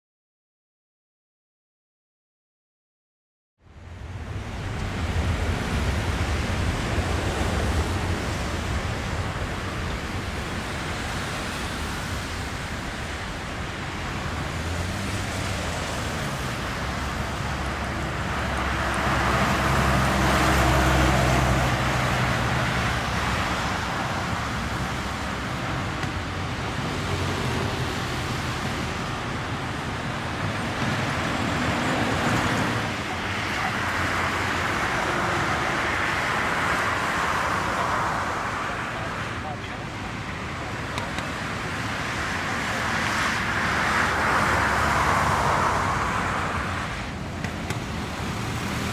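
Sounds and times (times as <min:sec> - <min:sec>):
jet engines rumbling: 0:03.8 - 0:48.9.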